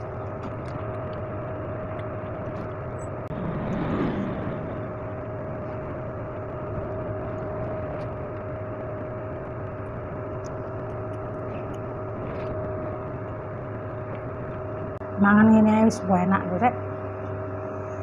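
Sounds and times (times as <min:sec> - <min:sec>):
small electric fan whirring: 0:00.0 - 0:18.0.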